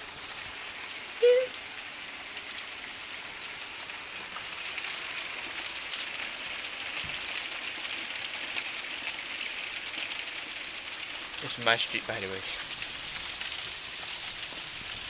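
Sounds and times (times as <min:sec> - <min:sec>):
heavy rain on street: 0:00.0 - 0:15.0.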